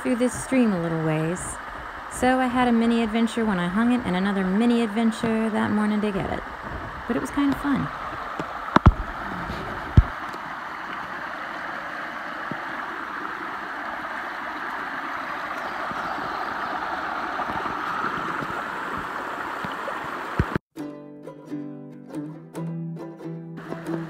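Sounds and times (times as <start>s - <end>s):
stream babbling: 0.0s - 20.6s, 23.6s - 24.0s.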